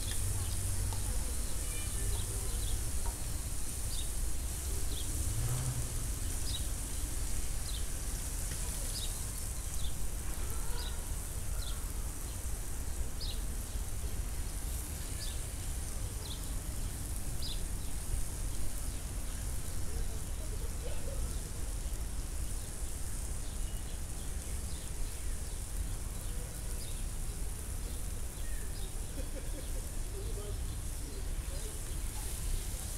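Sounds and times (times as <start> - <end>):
omelette sizzling in frying pan: 0.0 - 32.9.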